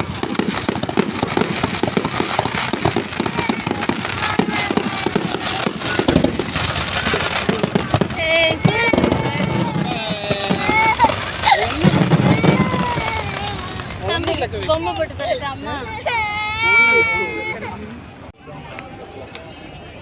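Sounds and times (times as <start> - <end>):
fireworks popping and crackling: 0.0 - 17.6
people's voices: 0.0 - 20.0.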